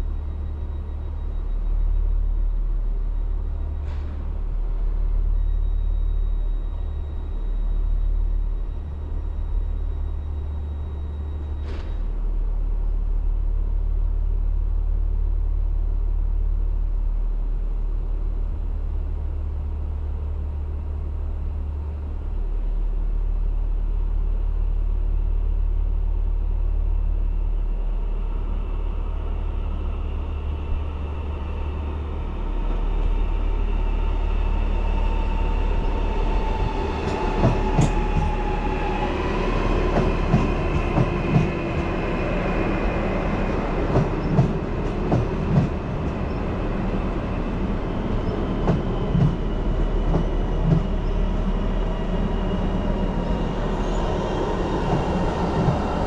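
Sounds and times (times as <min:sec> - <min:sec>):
electric train rumbling: 0:00.0 - 0:56.0.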